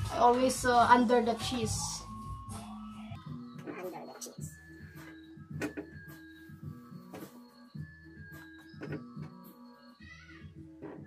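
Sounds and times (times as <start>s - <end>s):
background music with held tones: 0.0s - 11.0s.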